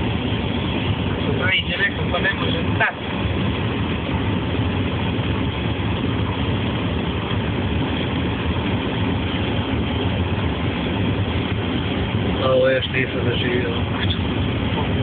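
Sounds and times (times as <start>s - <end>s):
car engine hum: 0.0s - 15.0s
road noise inside car: 0.0s - 15.0s.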